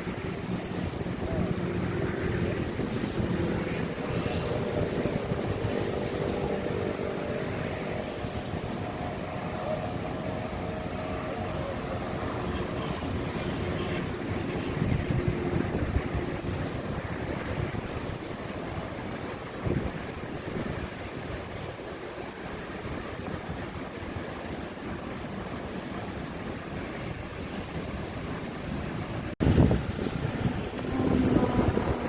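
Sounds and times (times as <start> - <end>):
sea waves breaking: 0.0 - 32.0
wind buffeting microphone: 0.0 - 32.0.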